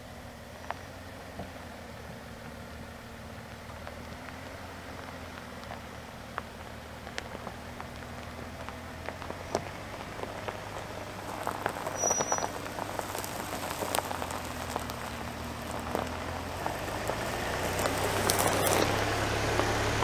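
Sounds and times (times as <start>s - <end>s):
engine humming low: 0.0s - 20.0s
tires crunching over dirt: 0.0s - 20.0s.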